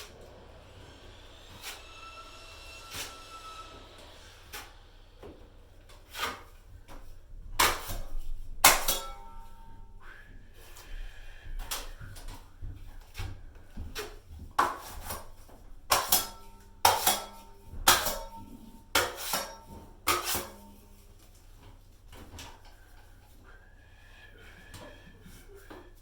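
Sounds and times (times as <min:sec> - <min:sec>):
drywall knife clacking and scraping: 0:01.3 - 0:23.6, 0:24.2 - 0:26.0.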